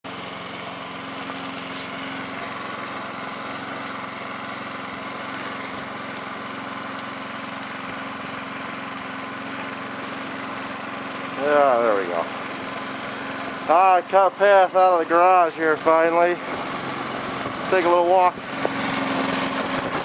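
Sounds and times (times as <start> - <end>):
small engine humming: 0.0 - 20.0.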